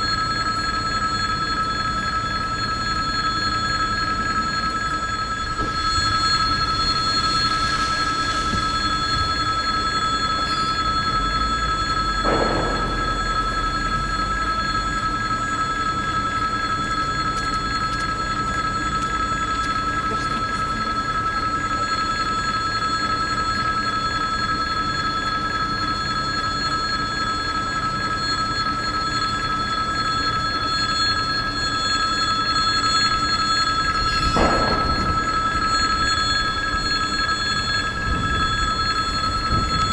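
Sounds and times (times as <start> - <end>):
level-crossing warning bell ringing: 0.0 - 39.9.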